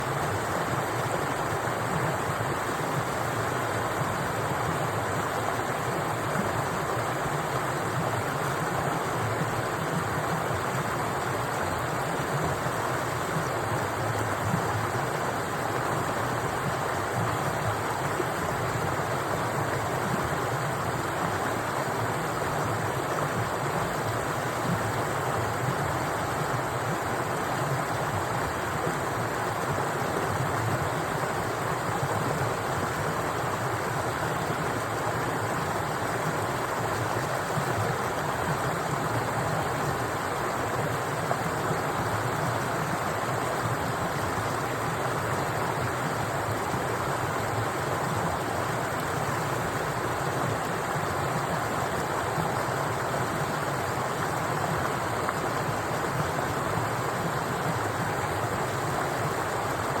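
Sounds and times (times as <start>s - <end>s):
stream water flowing: 0.0s - 60.0s.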